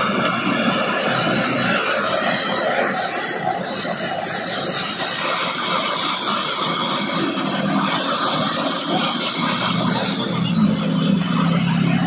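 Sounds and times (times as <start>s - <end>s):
blowtorch flame hissing: 0.0s - 12.0s.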